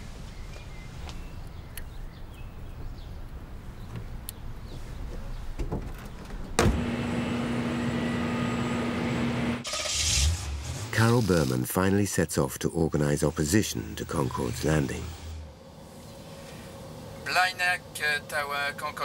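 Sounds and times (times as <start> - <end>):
engine hum with high whine: 0.0 - 11.5, 12.6 - 19.0.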